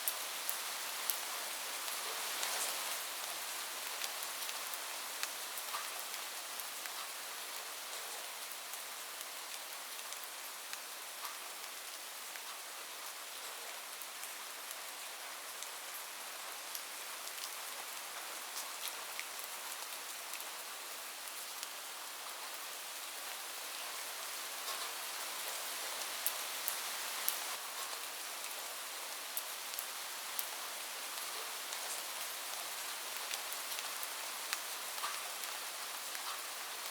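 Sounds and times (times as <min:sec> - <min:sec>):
heavy rain on a roof: 0:00.0 - 0:36.9.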